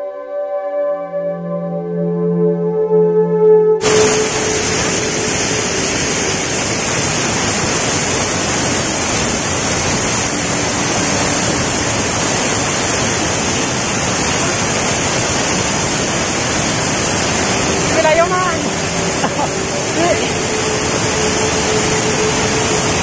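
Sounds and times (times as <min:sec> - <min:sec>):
waterfall rushing: 0:03.8 - 0:23.0.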